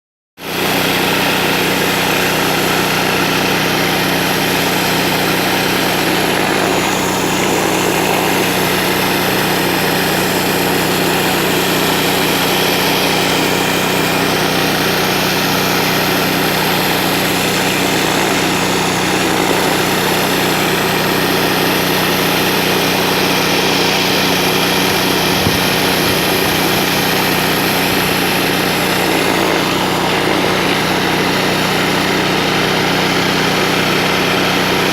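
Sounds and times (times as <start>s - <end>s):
pressure washer machine drone: 0.4s - 34.9s.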